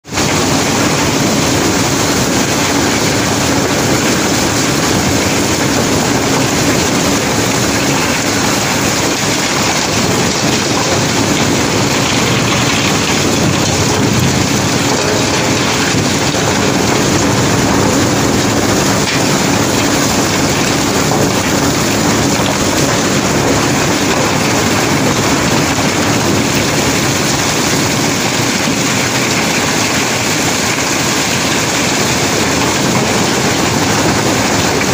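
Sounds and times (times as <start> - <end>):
machine hum: 0.2 - 34.9
gravel and cobbles clattering: 1.5 - 34.9.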